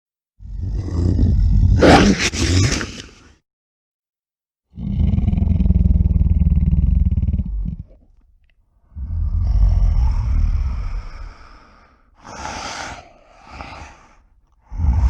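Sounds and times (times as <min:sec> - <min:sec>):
low rasping creature growls: 0:00.4 - 0:03.0, 0:04.7 - 0:15.0.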